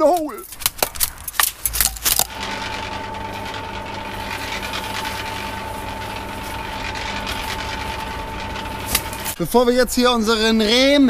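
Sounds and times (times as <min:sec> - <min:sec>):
mechanical drone with high whine: 0:01.1 - 0:11.0.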